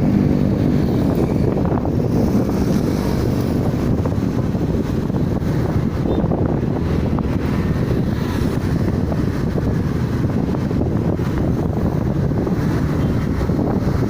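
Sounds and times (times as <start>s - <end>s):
moving vehicle on road: 0.0s - 14.0s
wind buffeting microphone: 0.0s - 14.0s.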